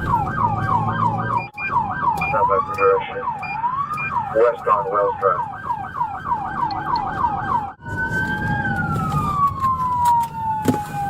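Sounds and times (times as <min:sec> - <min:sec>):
car engine and road rumble: 0:00.0 - 0:11.0
police siren: 0:00.0 - 0:11.0
second siren tone: 0:00.0 - 0:11.0.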